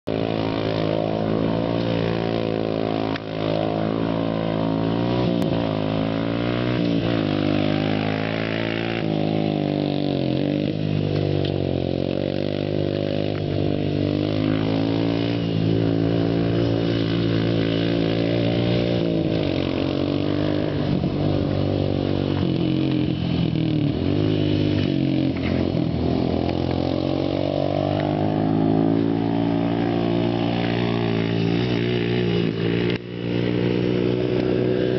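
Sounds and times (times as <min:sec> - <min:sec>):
atv engine revving: 0:00.0 - 0:34.9.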